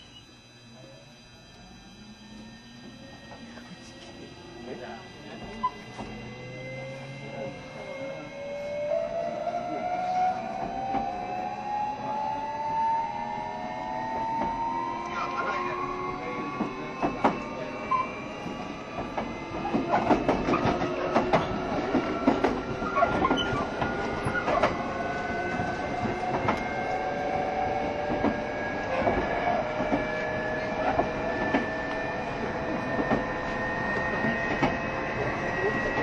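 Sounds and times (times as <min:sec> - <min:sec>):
electric train motor whine: 0:00.0 - 0:36.0
train running rumble: 0:01.6 - 0:36.0.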